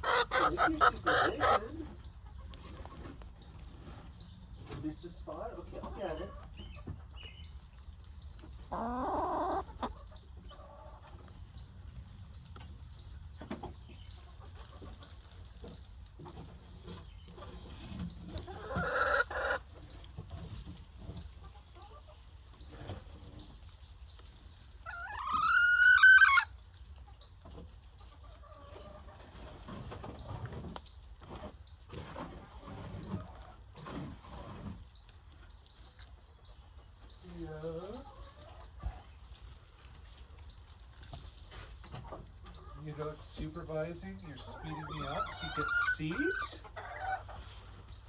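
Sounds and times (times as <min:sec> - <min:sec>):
chickens clucking: 0:00.0 - 0:48.0.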